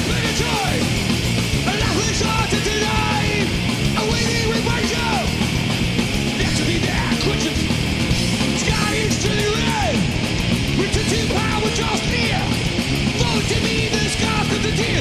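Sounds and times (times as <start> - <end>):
metal band playing live: 0.0 - 15.0
shouted lead vocals: 0.0 - 15.0.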